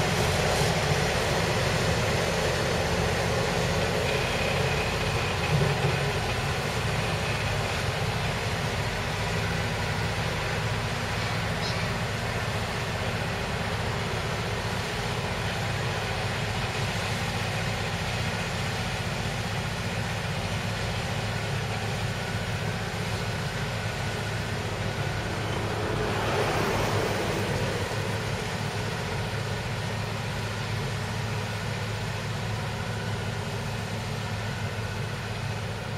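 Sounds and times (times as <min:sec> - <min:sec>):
diesel railcar engine humming: 0:00.0 - 0:35.9.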